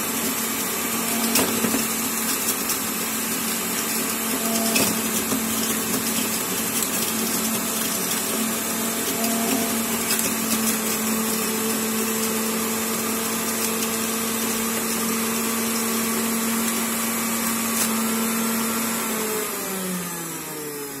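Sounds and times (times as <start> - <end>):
juicer motor running: 0.0 - 21.0.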